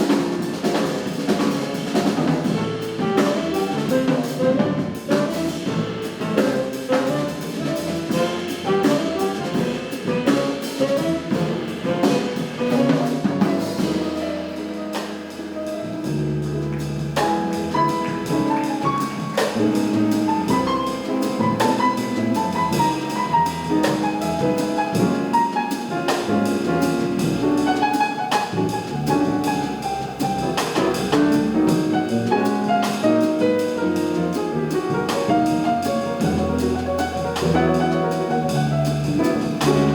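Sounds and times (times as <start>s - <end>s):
drum kit cymbals: 0.0s - 39.9s
piano: 0.0s - 39.9s
walking double bass: 0.0s - 39.9s.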